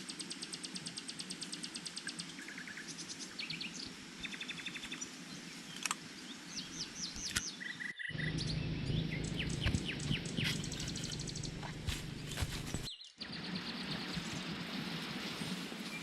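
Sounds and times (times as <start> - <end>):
birds chirping and trilling: 0.0 - 15.0
steady outdoor hiss: 0.0 - 16.0.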